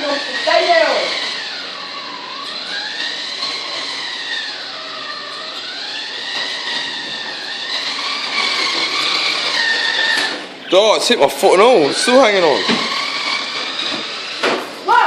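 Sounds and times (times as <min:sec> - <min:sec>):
toy car electric motor whine: 0:00.0 - 0:15.0.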